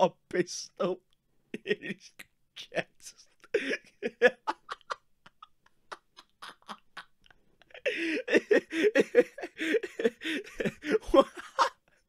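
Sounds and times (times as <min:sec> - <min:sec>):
man laughing: 0:00.8 - 0:12.0.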